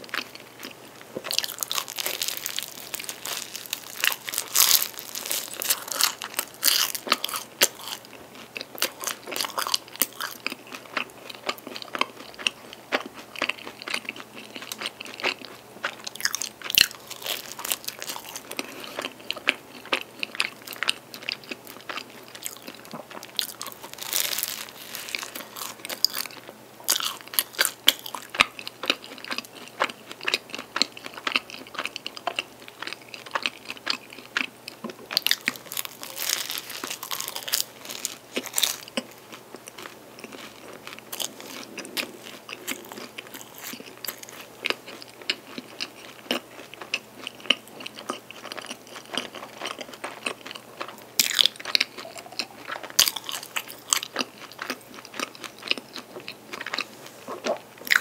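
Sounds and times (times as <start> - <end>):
pastry crunching while eating: 0.0 - 58.0
soft chewing: 0.0 - 58.0.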